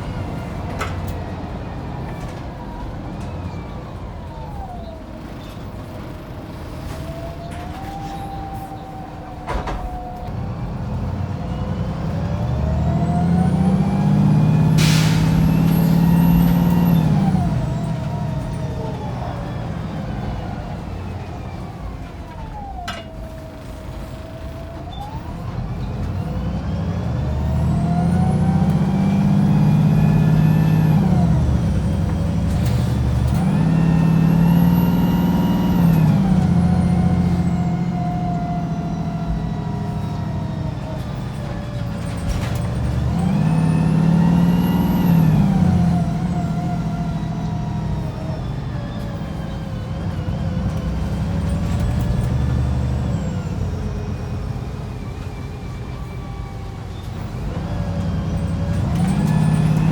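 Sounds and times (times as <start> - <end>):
bus diesel engine pulling: 0.0 - 59.9.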